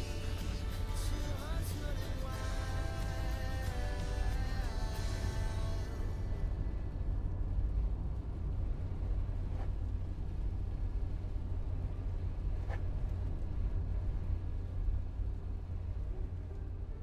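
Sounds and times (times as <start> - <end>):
car interior road noise: 0.0 - 17.0.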